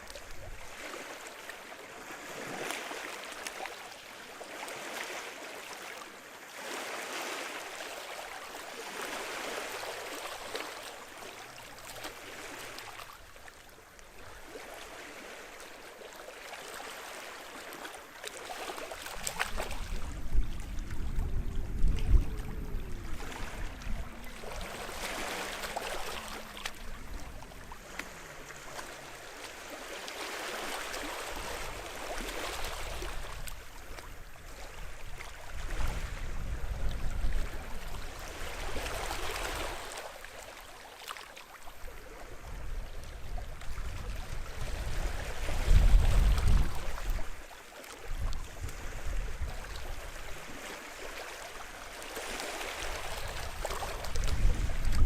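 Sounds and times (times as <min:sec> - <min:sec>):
small sea waves washing ashore: 0:00.0 - 0:55.0.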